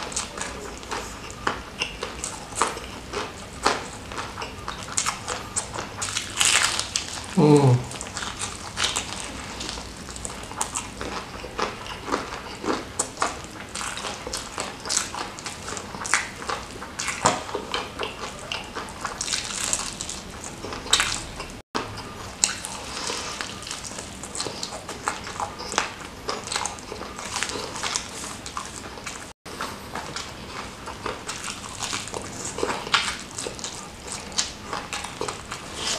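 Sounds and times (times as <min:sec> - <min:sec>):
wet chewing and smacking: 0:00.0 - 0:35.9.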